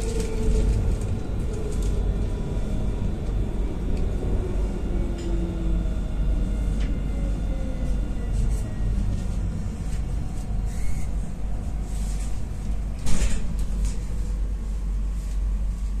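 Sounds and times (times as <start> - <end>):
electric traction whine: 0.0 - 14.4
tram rumble: 0.0 - 16.0.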